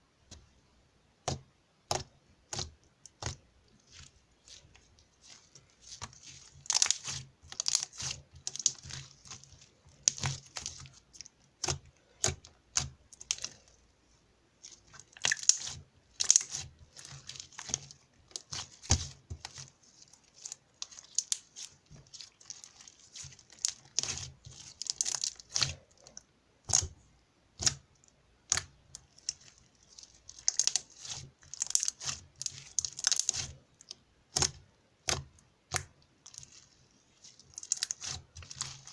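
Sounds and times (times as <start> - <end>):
slime squished by hand: 1.2 - 13.7, 14.6 - 27.0, 27.6 - 38.9.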